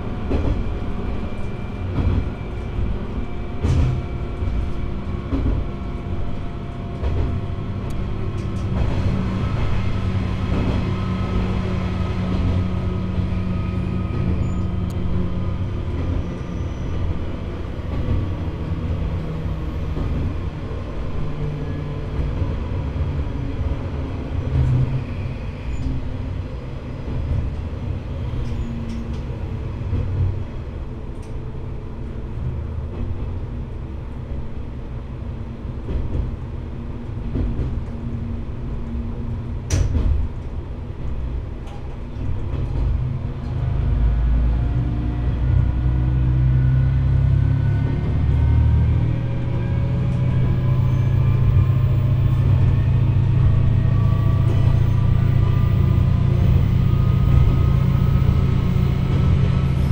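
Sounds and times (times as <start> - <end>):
railcar wheels and engine rumble: 0.0 - 59.9.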